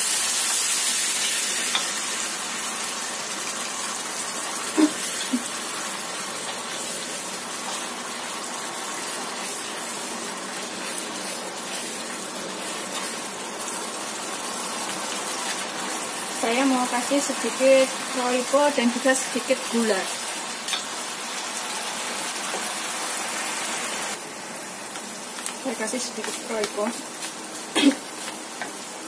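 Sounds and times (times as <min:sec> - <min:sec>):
sauce sizzling in a wok: 0:00.0 - 0:29.0.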